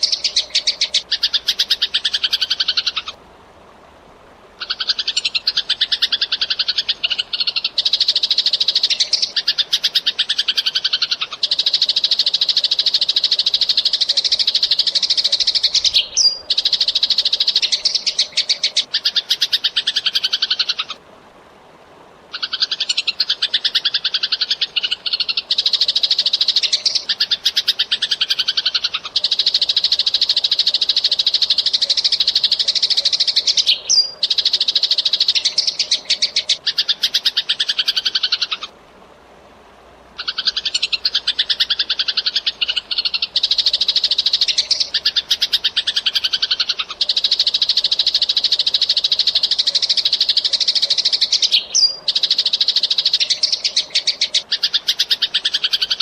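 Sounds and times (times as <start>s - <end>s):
sparrow chirping: 0.0s - 3.1s, 4.6s - 20.9s, 22.4s - 38.6s, 40.2s - 56.0s.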